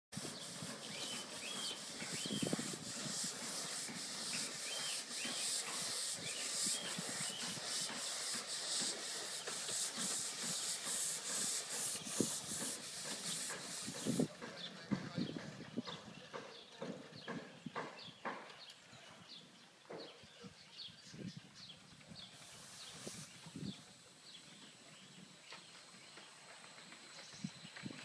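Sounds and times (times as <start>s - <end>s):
steam locomotive chuffing: 0.1s - 18.4s, 22.3s - 28.0s.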